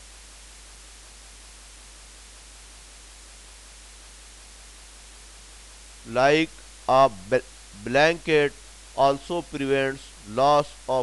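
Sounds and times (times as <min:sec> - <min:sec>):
background hiss: 0:00.0 - 0:11.0
low constant hum: 0:00.0 - 0:11.0.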